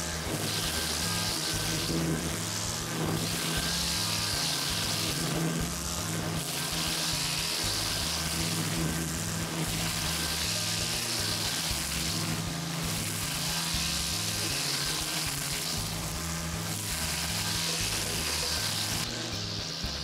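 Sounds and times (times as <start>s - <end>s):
background music: 0.0s - 20.0s
brush cutter hissing through grass: 0.0s - 20.0s.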